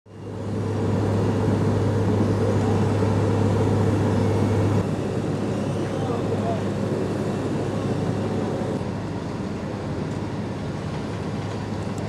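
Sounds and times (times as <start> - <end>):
diesel engine humming: 0.1 - 12.0.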